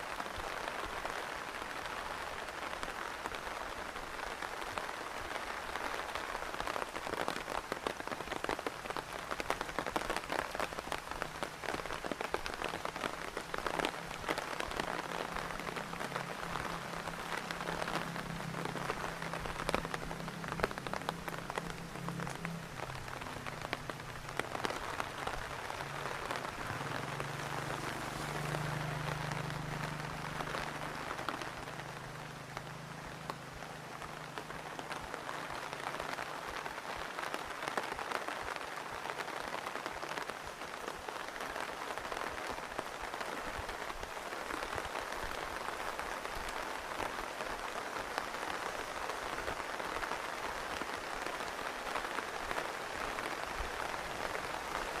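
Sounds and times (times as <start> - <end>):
rain with drops striking: 0.0 - 55.0.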